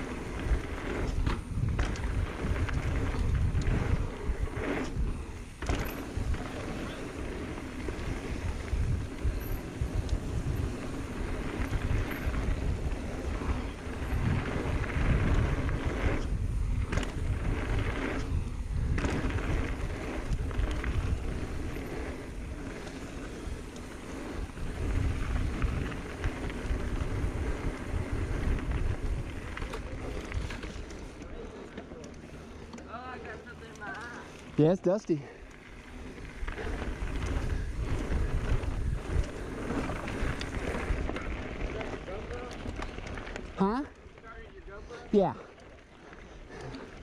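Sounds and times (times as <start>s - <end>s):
wind rumbling on microphone: 0.0s - 31.7s, 34.2s - 47.0s
bike tyres rolling over dirt: 0.0s - 47.0s.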